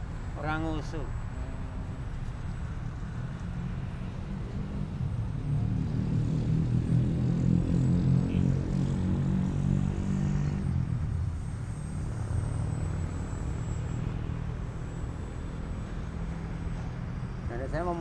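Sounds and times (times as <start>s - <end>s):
faint high whine: 0.0s - 18.0s
model airplane propeller drone: 0.0s - 18.0s.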